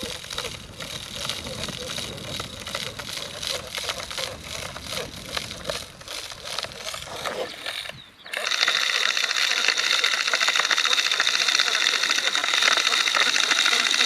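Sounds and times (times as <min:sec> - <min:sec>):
fast mechanical rattle: 0:00.0 - 0:14.0.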